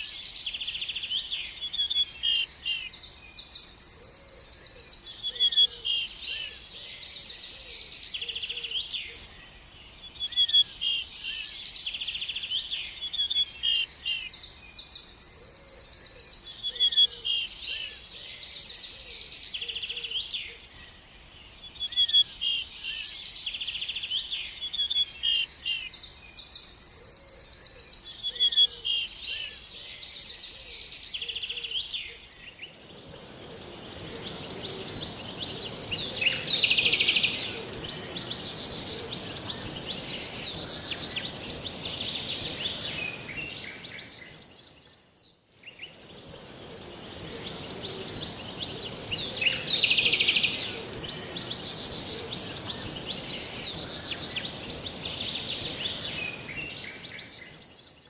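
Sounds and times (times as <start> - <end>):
songbird singing trills: 10.0 - 58.0.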